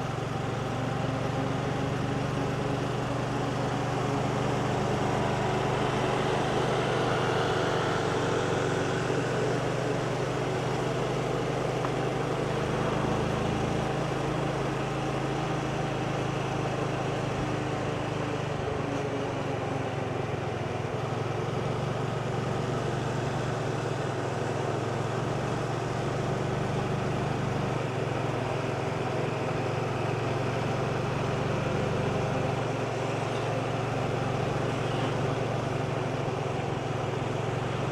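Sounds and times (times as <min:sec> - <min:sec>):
motorbike engine cruising: 0:00.0 - 0:37.9
road and wind noise: 0:00.0 - 0:37.9.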